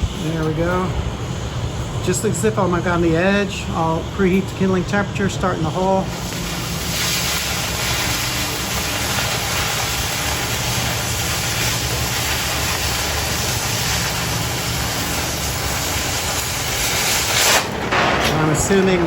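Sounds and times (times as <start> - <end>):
cutting torch hissing: 0.0 - 19.0.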